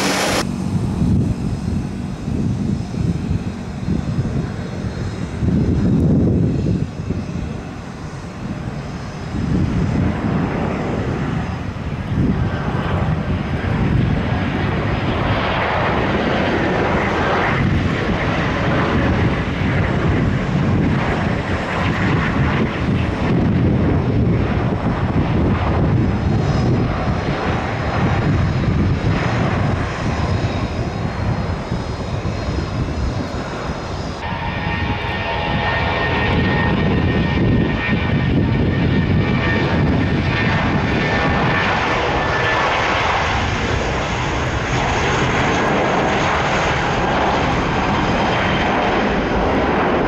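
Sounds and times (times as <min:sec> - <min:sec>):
airplane engines roaring: 0:00.0 - 0:50.0.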